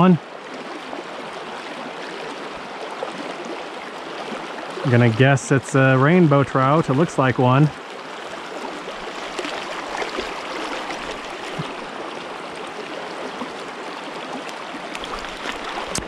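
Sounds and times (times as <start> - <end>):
stream rushing over stones: 0.0 - 16.0.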